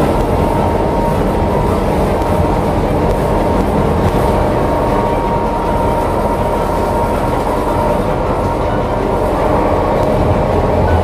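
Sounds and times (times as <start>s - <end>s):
boat engine rumbling: 0.0s - 11.0s
faint steady whine: 0.0s - 11.0s.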